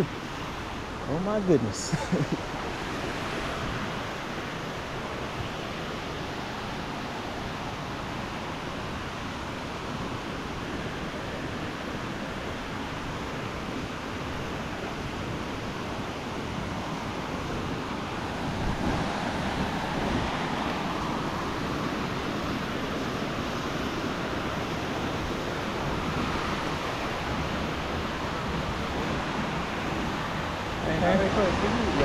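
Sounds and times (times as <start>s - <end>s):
rush of falling water: 0.0s - 32.0s.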